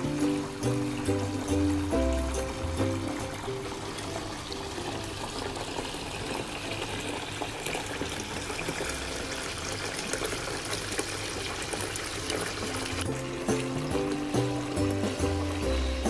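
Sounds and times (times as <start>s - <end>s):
falling water splashing: 0.0s - 16.0s.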